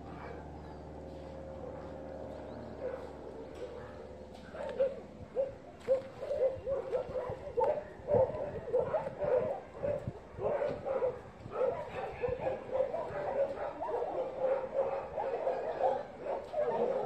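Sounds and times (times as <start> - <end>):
dog barking in high yips: 2.8 - 17.0.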